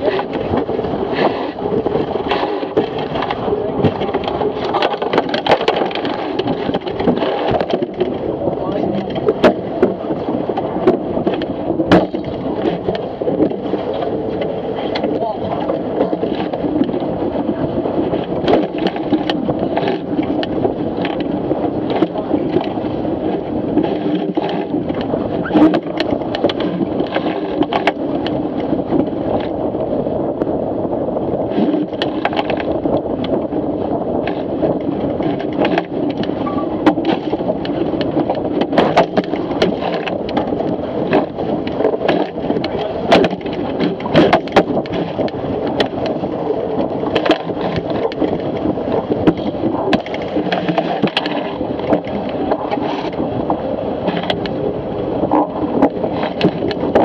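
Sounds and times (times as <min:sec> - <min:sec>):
rush of water and wind: 0:00.0 - 0:57.0
waves slapping hull: 0:00.0 - 0:57.0.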